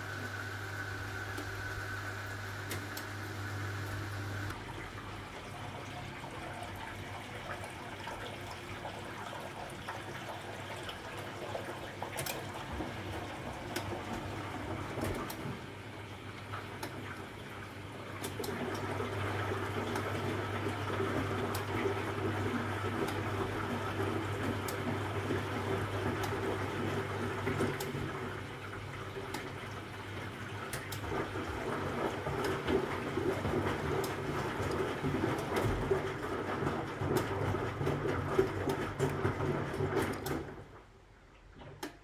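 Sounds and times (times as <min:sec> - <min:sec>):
washing machine motor humming: 0:00.0 - 0:42.0
laundry and water sloshing: 0:04.4 - 0:42.0.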